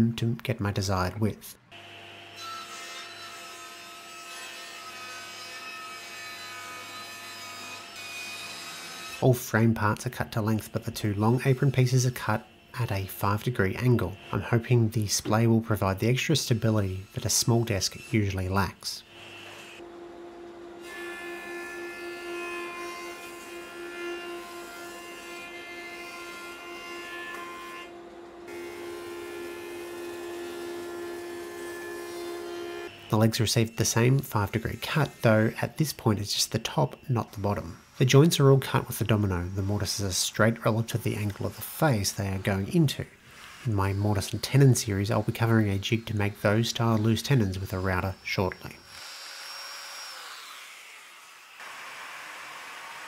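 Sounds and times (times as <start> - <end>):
table saw cutting wood: 1.7 - 53.0.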